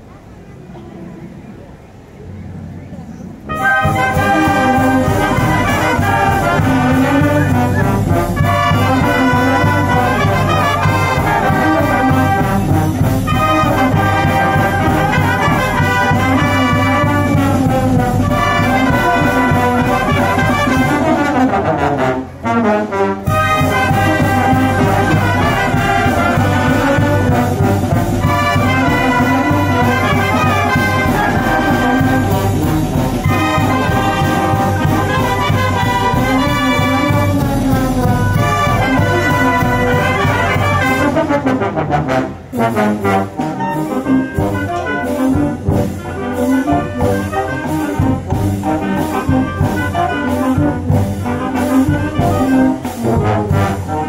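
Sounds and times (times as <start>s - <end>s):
brass band playing swing tune: 3.4s - 54.0s.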